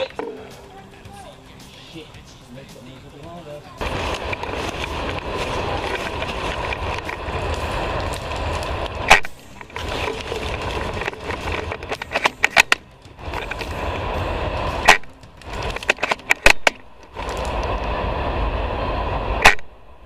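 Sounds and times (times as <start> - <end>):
steady rustling: 0.0 - 18.0.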